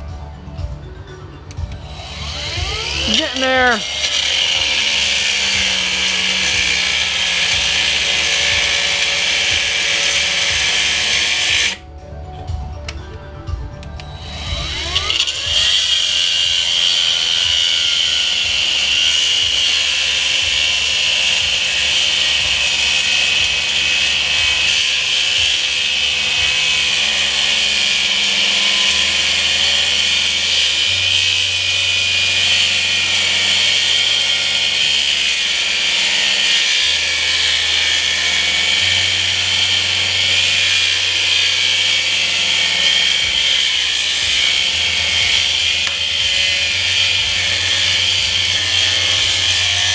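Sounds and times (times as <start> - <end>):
power tool whining under load: 1.6 - 11.9, 13.9 - 49.9.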